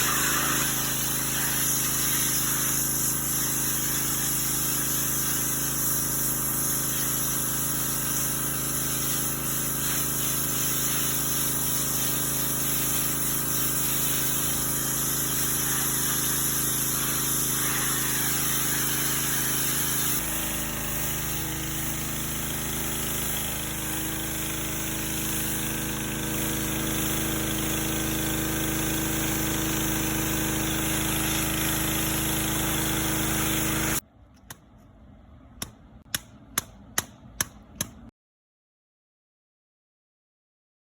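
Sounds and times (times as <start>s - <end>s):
pressure washer engine drone: 0.0s - 34.0s
water jet hissing: 0.0s - 34.0s.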